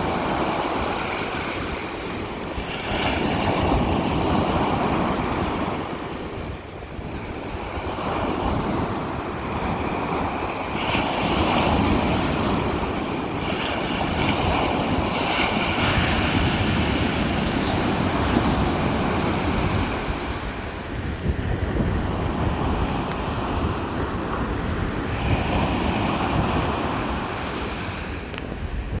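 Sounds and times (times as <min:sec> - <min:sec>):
surf breaking on a beach: 0:00.0 - 0:29.0
wind buffeting microphone: 0:00.0 - 0:29.0.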